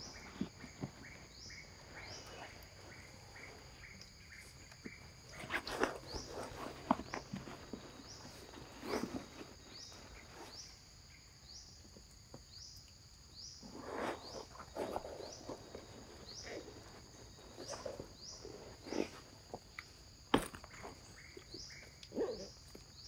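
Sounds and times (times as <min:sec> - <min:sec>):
rustling and shuffling: 0:00.0 - 0:11.2, 0:13.6 - 0:23.0
insect droning: 0:00.0 - 0:23.0.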